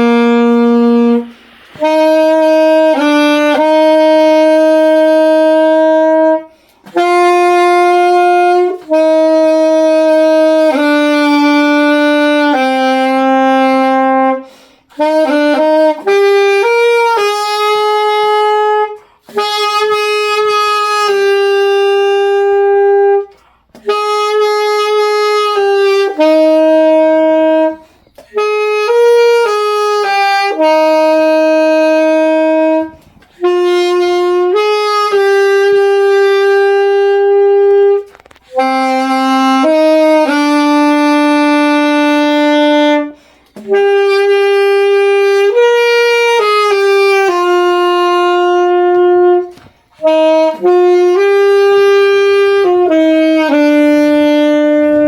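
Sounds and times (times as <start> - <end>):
saxophone solo melody: 0.0 - 55.0.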